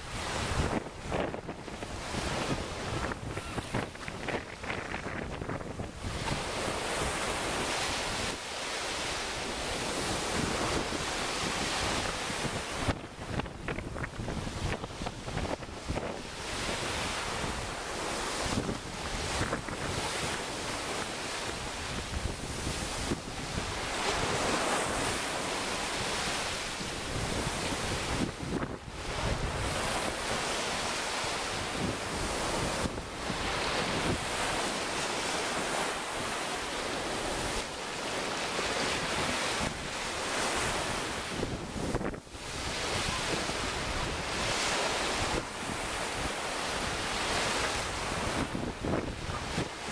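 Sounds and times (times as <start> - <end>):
waves washing onto beach: 0.0 - 49.9
wind buffeting microphone: 0.0 - 49.9.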